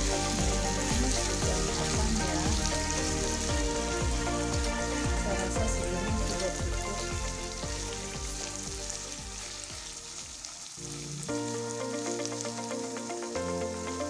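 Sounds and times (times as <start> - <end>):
background music of held notes: 0.0 - 14.0
chicken sizzling in a wok: 0.0 - 14.0.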